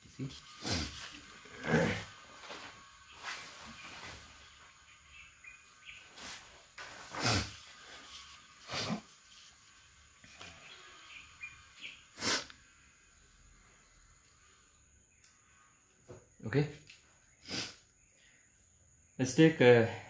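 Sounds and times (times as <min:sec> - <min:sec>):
faint bird chirps: 0:00.1 - 0:07.1, 0:07.7 - 0:19.4.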